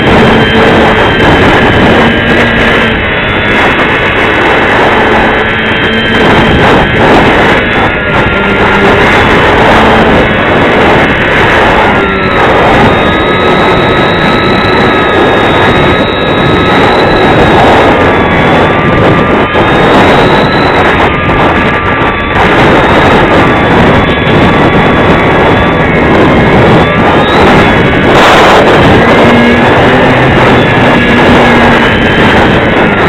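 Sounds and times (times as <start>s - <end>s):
model plane motor whine: 0.0s - 33.0s
wind buffeting microphone: 0.0s - 33.0s.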